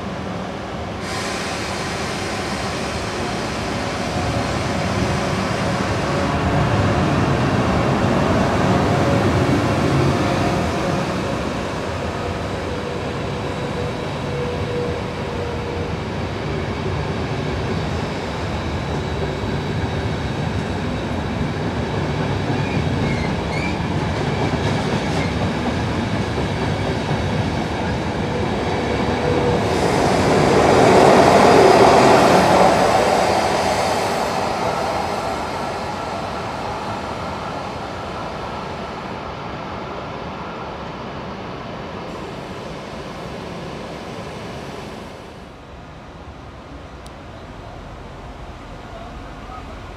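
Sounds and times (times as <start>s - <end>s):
train passing on rails: 0.0s - 49.9s.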